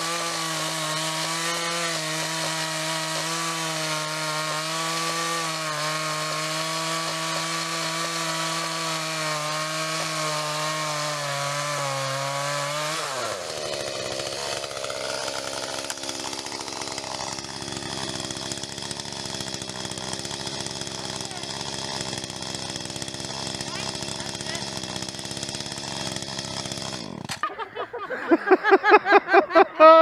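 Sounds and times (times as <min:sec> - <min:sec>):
chainsaw cutting log: 0:00.0 - 0:28.8.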